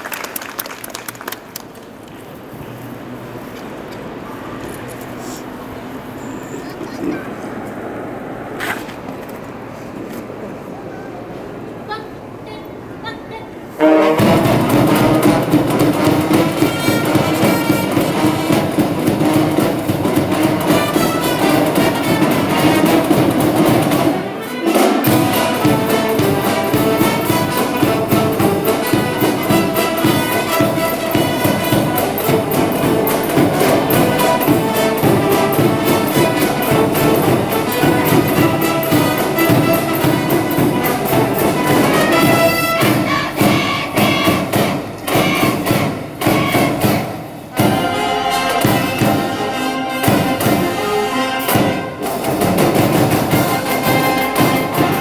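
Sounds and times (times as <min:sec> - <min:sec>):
wind band playing cheering tunes: 0:09.5 - 0:55.0.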